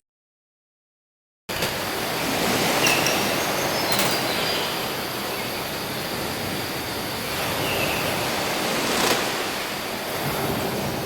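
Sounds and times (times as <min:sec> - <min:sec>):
steady rushing noise: 0:01.5 - 0:11.0.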